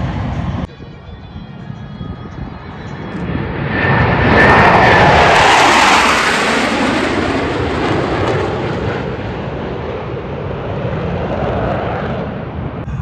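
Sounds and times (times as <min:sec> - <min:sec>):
jet flying past: 0:00.0 - 0:13.0.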